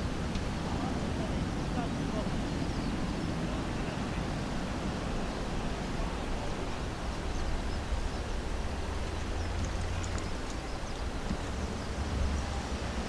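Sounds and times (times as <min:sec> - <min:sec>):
distant aircraft engines rumbling: 0:00.0 - 0:13.0.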